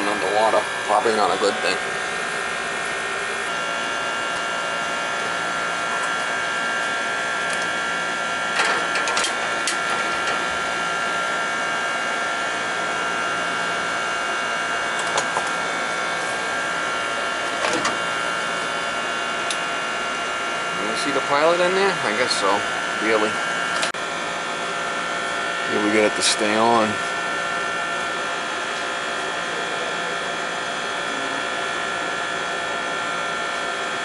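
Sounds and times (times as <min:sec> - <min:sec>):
machine whirring and whining: 0:00.0 - 0:34.0.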